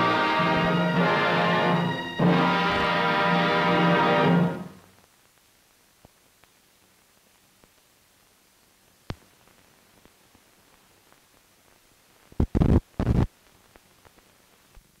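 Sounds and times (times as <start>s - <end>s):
film hiss with clicks and pops: 0.0s - 15.0s.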